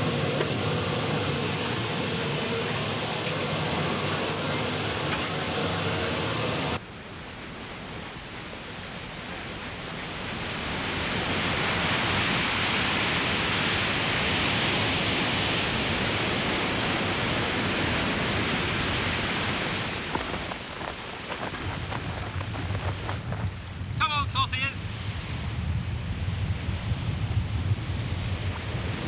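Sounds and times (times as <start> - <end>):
steady rushing hiss: 0.0 - 29.0.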